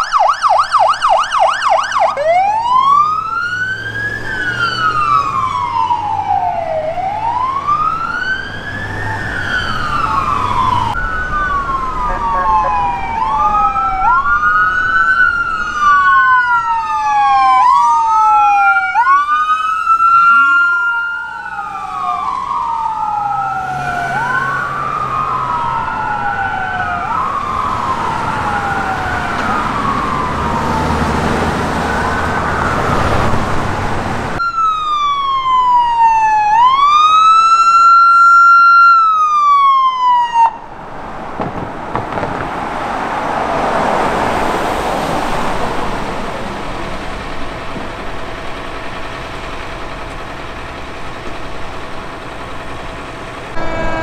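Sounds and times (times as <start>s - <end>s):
ambulance siren wailing: 0.0s - 54.0s
vehicle engine and tyre noise: 0.0s - 54.0s.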